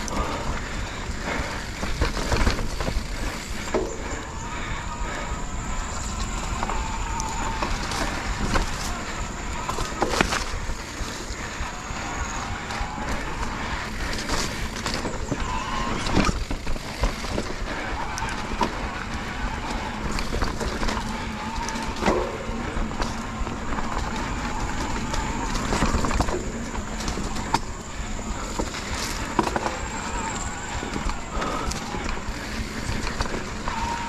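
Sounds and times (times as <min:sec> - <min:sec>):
bike rattling over bumps: 0:00.0 - 0:34.0
wind and tyre noise: 0:00.0 - 0:34.0.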